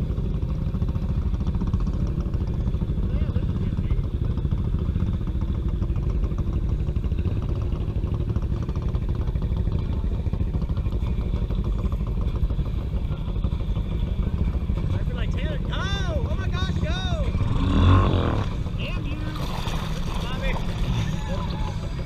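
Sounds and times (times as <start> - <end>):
quad engine running: 0.0 - 22.0.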